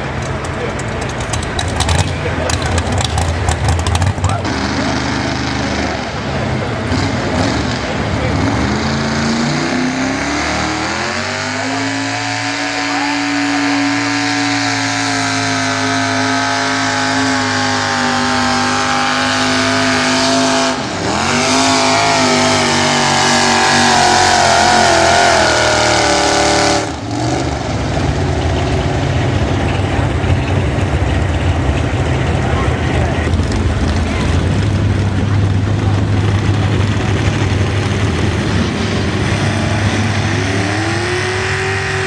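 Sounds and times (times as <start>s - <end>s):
truck engine at high revs: 0.0s - 42.0s.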